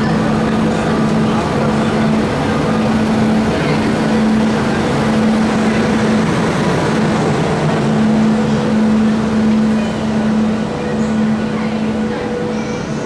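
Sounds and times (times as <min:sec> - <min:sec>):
busy crowd din: 0:00.0 - 0:13.0
engine hum: 0:00.0 - 0:13.0.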